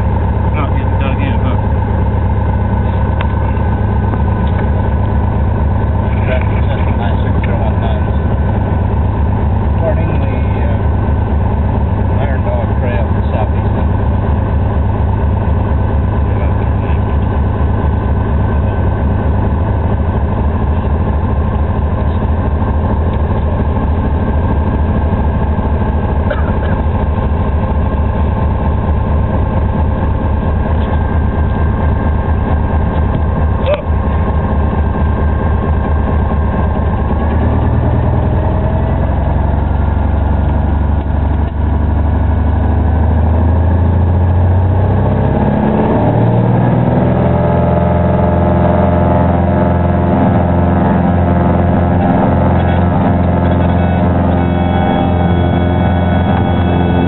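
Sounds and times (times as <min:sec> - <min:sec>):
propeller plane engine from cockpit: 0:00.0 - 0:57.0.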